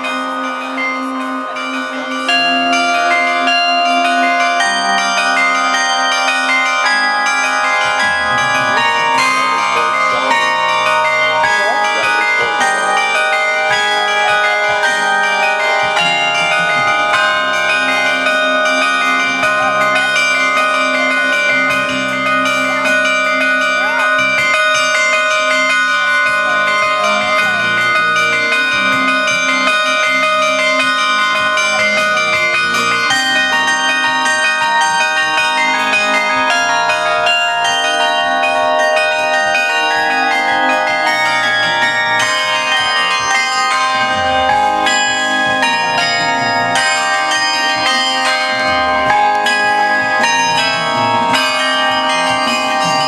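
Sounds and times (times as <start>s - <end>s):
carillon bells playing a tune: 0.0s - 53.0s.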